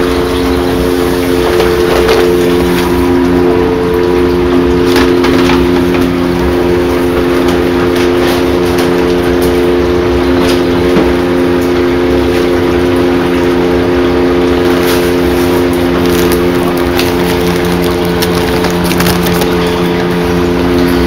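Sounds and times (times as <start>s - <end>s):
submerged pump humming: 0.0s - 21.0s
water churning: 0.0s - 21.0s.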